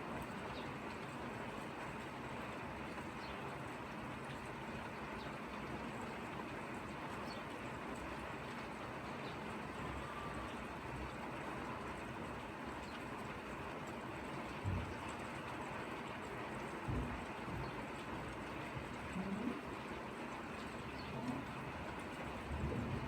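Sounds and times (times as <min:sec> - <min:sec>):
light rain falling: 0:00.0 - 0:23.0.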